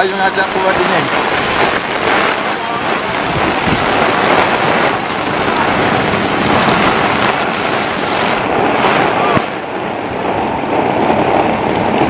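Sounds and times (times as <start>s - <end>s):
heavy rain falling: 0.0s - 12.0s
strong wind: 0.0s - 12.0s.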